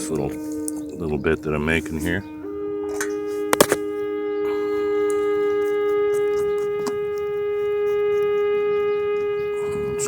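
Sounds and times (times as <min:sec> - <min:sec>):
sustained pitched tone: 0:00.0 - 0:10.0.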